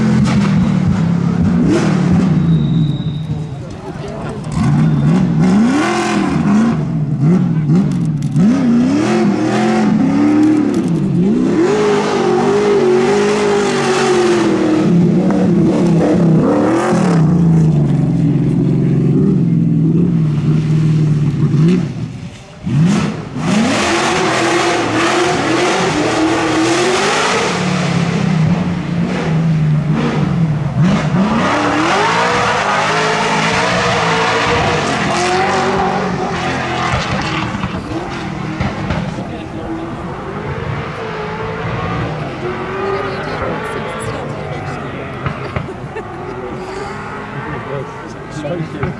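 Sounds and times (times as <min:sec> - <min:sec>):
rally car engine revving: 0:00.0 - 0:48.9.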